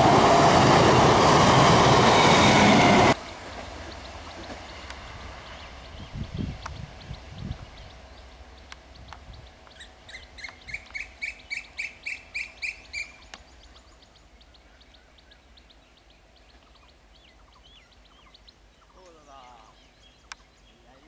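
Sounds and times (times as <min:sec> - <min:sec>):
low train rumble: 0:00.0 - 0:21.0.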